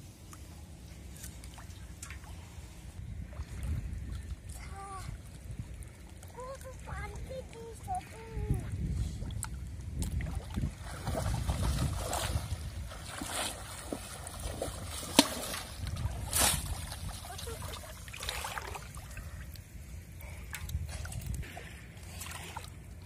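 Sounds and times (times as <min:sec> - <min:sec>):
shallow water splashing: 0:00.2 - 0:23.0.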